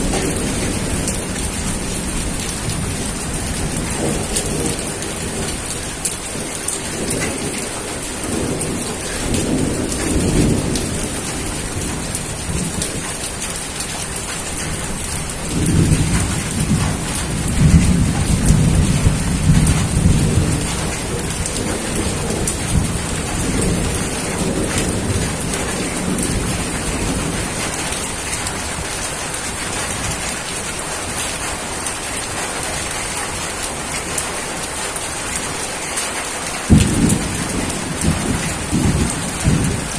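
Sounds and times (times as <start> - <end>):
thunder rumbling: 0.0 - 31.6, 36.6 - 39.9
steady rain falling: 0.0 - 39.9.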